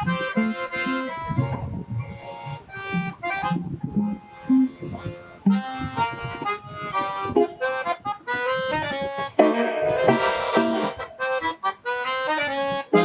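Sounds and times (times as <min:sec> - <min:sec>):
accordion: 0:00.0 - 0:13.0
guitar: 0:00.0 - 0:13.0.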